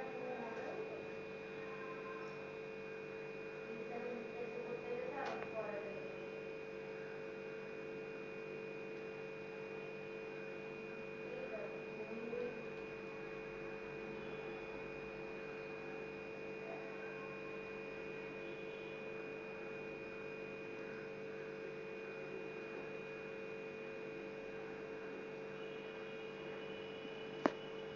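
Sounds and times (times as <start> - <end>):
steady room hum: 0.0 - 27.9.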